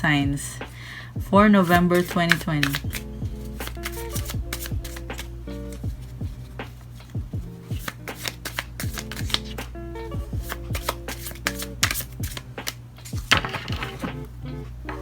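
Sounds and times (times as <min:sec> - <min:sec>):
music with kick-drum beat: 0:00.0 - 0:01.9, 0:02.8 - 0:11.2, 0:11.8 - 0:14.3
cards being shuffled: 0:01.6 - 0:15.0.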